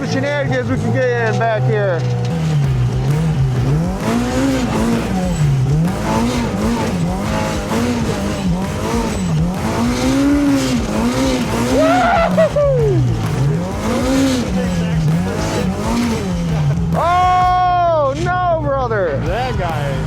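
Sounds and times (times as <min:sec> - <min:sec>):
engine revving up and down: 0:00.0 - 0:20.0.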